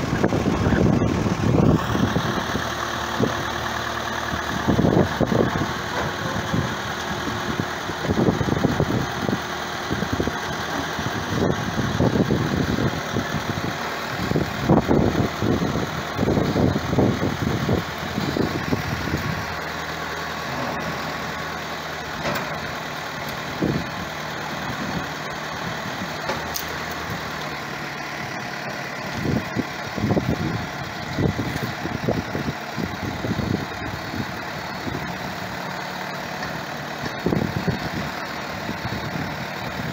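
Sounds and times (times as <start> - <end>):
diesel engine running: 0.0 - 39.9
low rumbles: 0.0 - 39.9.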